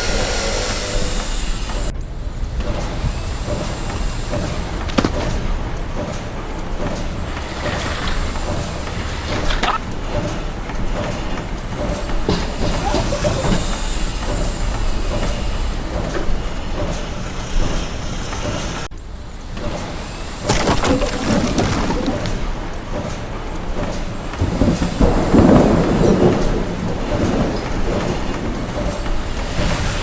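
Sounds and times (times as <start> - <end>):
heavy machinery running: 0.0 - 30.0.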